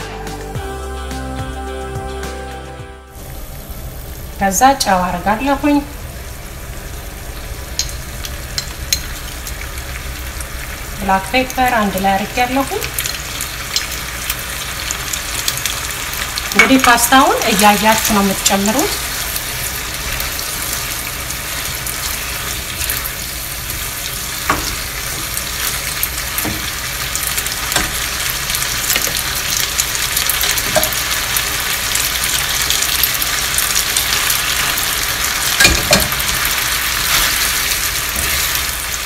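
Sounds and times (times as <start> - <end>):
pasta sizzling in frying pan: 3.2 - 39.0.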